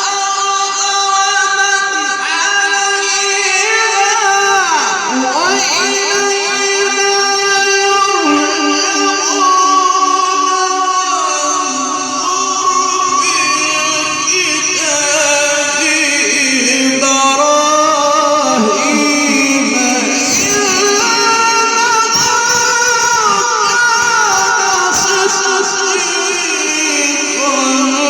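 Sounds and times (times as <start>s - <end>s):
man reciting melodically over speakers: 0.0s - 28.0s.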